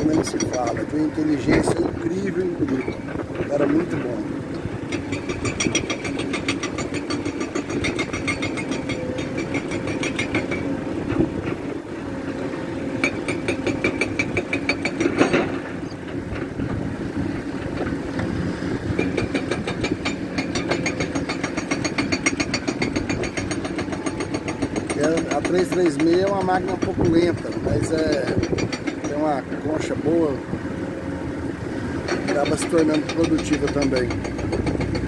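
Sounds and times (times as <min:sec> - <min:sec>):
excavator diesel engine under load: 0:00.0 - 0:35.0.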